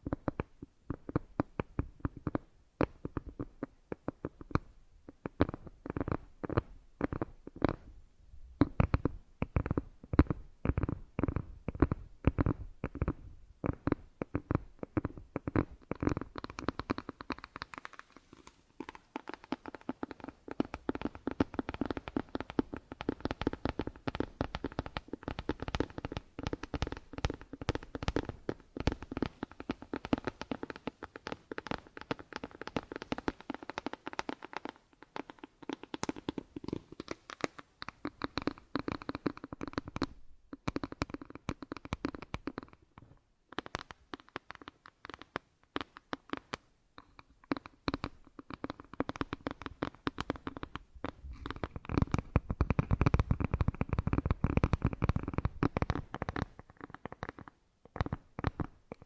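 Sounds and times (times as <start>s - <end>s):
crackling taps and scratches: 0.0s - 59.0s.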